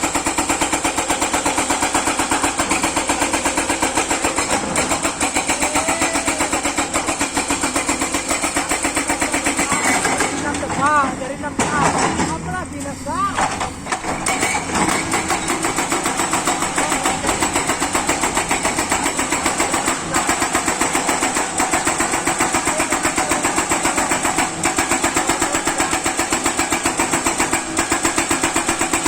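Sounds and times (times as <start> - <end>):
excavator diesel engine pulsing: 0.0 - 29.0.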